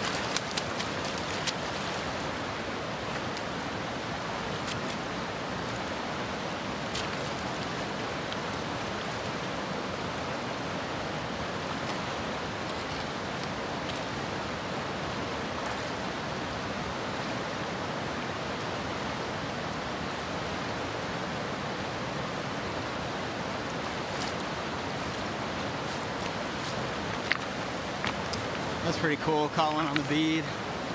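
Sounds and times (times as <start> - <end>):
river rushing over stones: 0.0 - 30.9.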